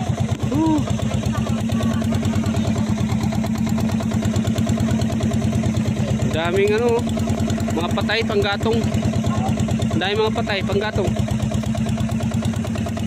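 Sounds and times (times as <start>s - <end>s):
boat engine pulsing: 0.0s - 13.0s.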